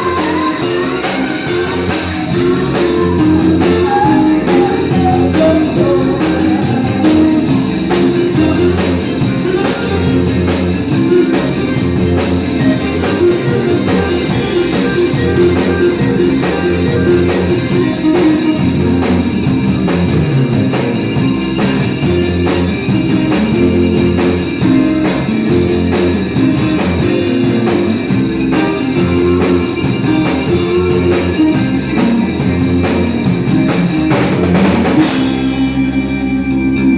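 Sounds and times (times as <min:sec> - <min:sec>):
rock band playing live: 0:00.0 - 0:36.9.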